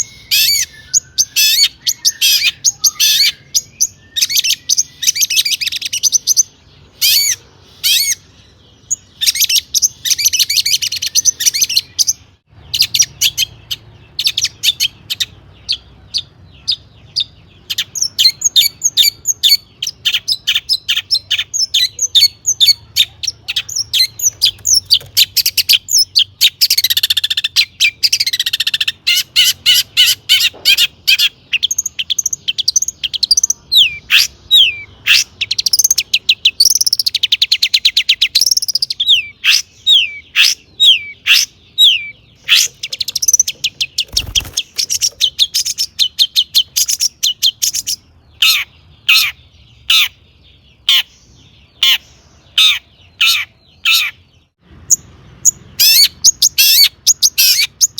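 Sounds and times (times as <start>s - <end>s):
bird singing chirps and trills: 0.0s - 57.9s.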